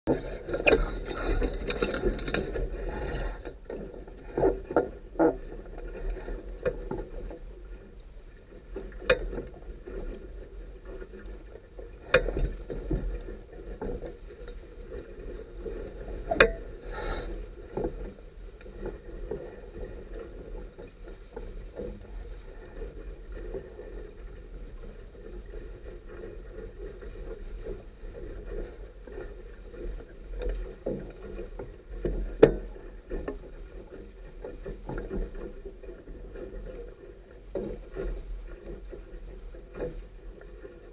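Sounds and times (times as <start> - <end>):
water splashing along a hull: 0.1 - 40.9.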